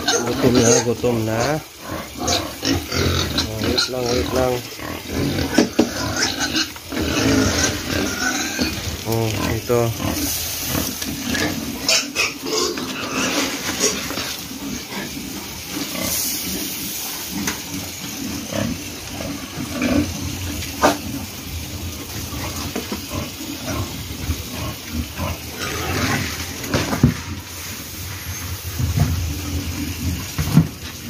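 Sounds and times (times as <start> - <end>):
pigs grunting: 0.0 - 27.4
pigs chomping and slurping: 0.0 - 31.0.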